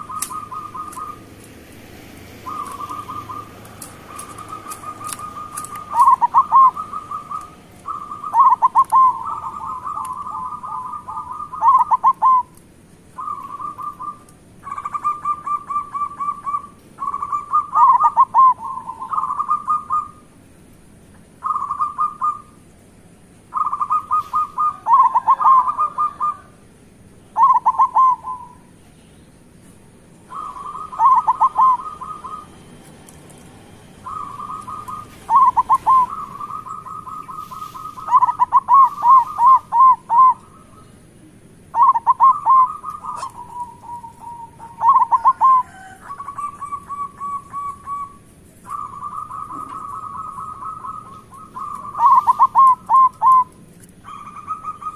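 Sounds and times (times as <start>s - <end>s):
doves cooing: 0.0s - 20.4s, 21.3s - 22.7s, 23.5s - 28.8s, 30.2s - 54.9s.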